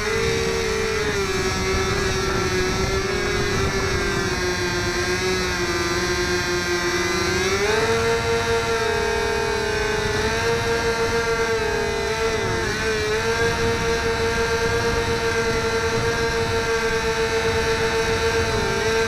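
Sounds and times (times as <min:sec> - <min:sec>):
model plane motor whining: 0:00.0 - 0:19.0
wind rumble on microphone: 0:00.0 - 0:19.0.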